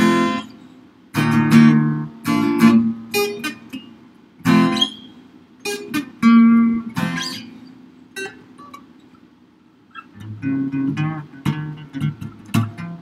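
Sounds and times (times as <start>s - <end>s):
acoustic guitar chords strummed: 0.0s - 8.9s, 10.0s - 13.0s.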